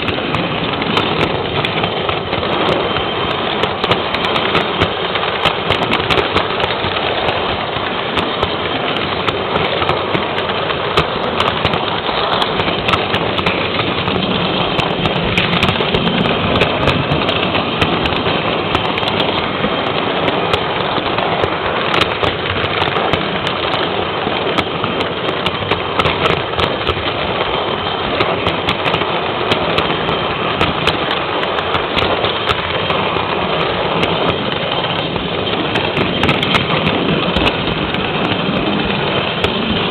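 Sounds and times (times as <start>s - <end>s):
dense crackle of clicks: 0.0s - 39.9s
model train wheels rattling on rails: 0.0s - 39.9s.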